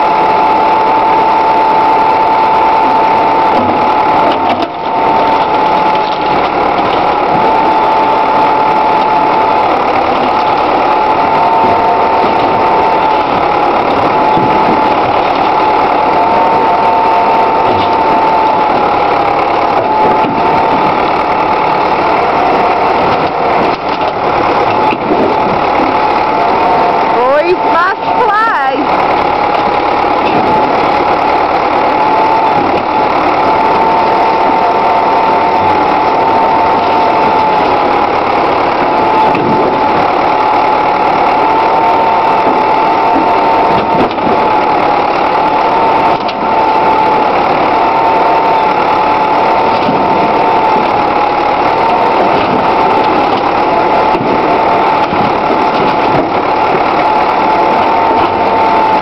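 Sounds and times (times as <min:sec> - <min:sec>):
backhoe engine running: 0:00.0 - 0:59.0
high whine: 0:00.0 - 0:59.0.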